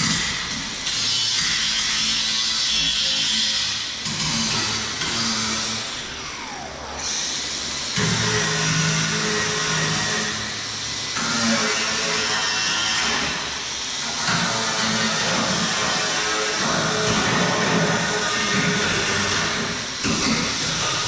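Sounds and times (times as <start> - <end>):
power tool on sheet metal: 0.0 - 21.0.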